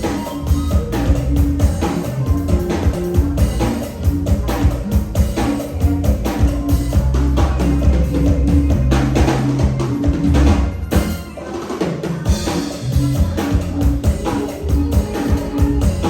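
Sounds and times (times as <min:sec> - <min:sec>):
deep bass line: 0:00.0 - 0:11.0, 0:12.3 - 0:16.0
drum kit beat: 0:00.0 - 0:16.0.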